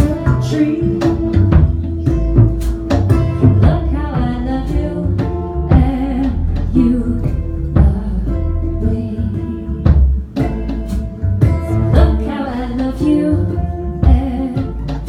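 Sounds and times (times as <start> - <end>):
woman singing: 0.0 - 2.2, 3.3 - 15.0
drums: 0.0 - 15.0
upright bass: 0.0 - 15.0.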